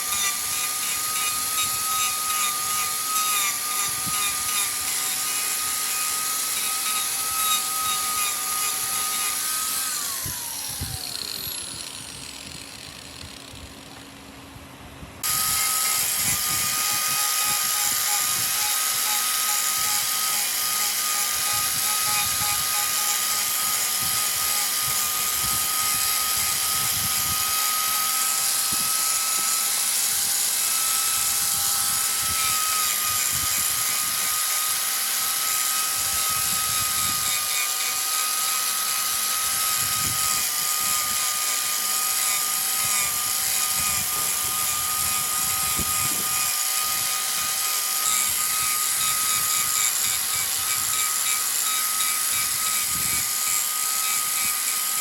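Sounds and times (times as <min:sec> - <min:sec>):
wood lathe whining: 0:00.0 - 0:14.0, 0:15.2 - 0:55.0.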